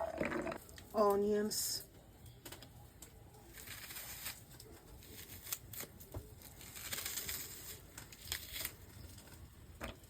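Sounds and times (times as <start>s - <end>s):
soft rustling and crinkling: 0.1s - 10.0s.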